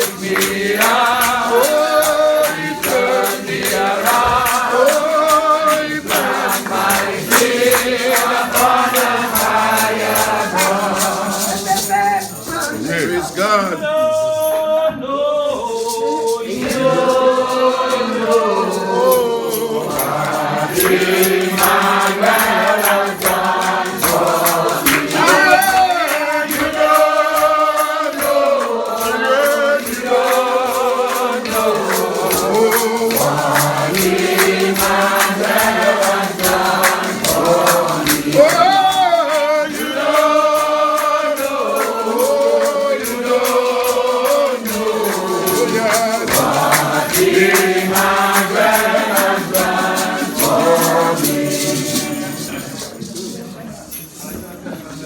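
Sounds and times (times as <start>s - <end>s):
shaken hand percussion: 0.0s - 14.9s, 15.5s - 55.0s
congregation singing gospel chorus: 0.0s - 53.4s.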